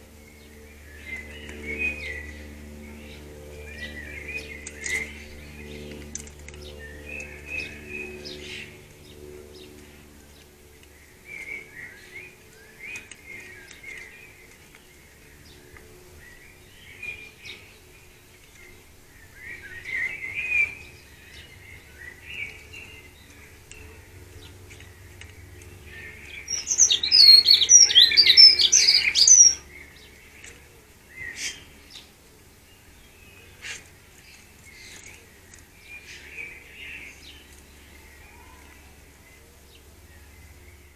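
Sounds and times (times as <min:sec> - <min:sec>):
birds chirping and twittering: 0:00.0 - 0:40.9
rapid high bird song: 0:00.0 - 0:40.9.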